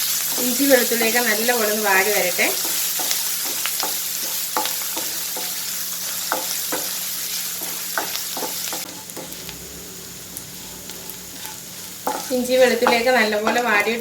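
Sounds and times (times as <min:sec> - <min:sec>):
food sizzling in oil: 0:00.0 - 0:14.0
spatula scraping a pan: 0:00.0 - 0:14.0.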